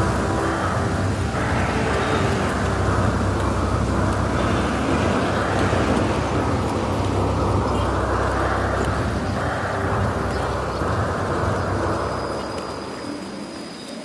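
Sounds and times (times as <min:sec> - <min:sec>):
kiddie train rumbling: 0:00.0 - 0:14.0.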